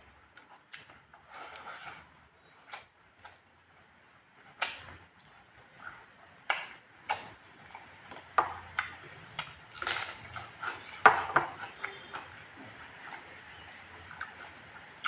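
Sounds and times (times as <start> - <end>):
person eating with clicks and smacks: 0.0 - 15.0.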